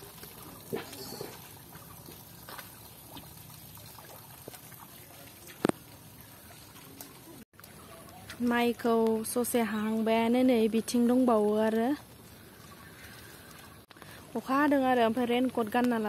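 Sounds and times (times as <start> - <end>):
feet wading through water: 0.0 - 10.2, 11.0 - 14.4
water splashing and trickling: 0.0 - 16.0.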